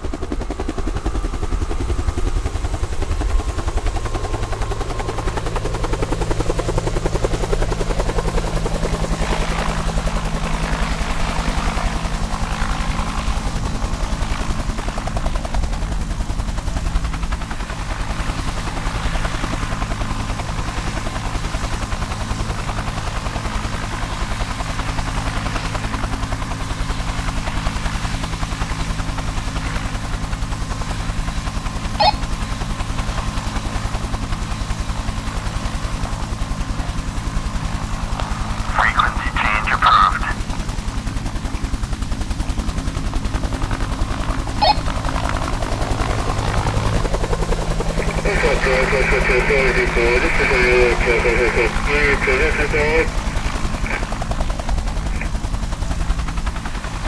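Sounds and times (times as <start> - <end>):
helicopter rotor chopping: 0.0 - 57.0.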